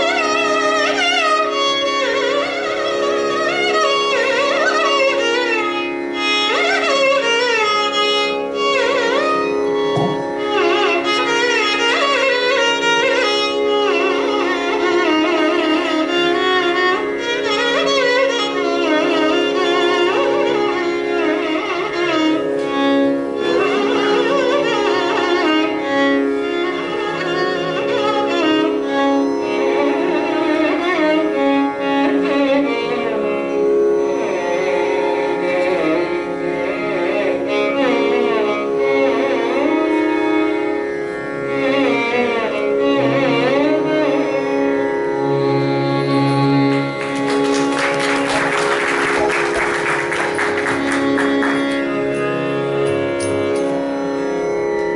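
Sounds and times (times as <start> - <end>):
steady drone: 0.0 - 54.9
violin melody: 0.0 - 54.9.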